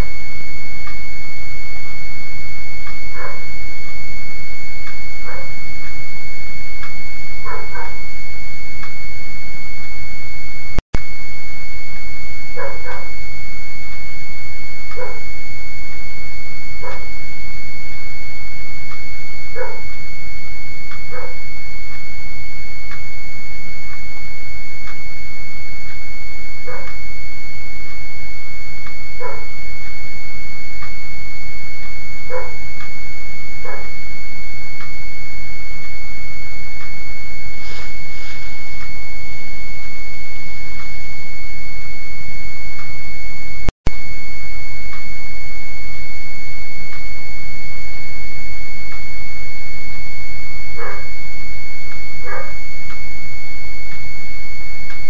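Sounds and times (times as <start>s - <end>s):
high-pitched tone: 0.0s - 55.0s.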